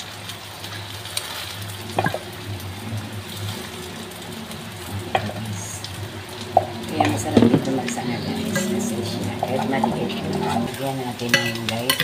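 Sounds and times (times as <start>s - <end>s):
low hum and faint hiss: 0.0s - 12.0s.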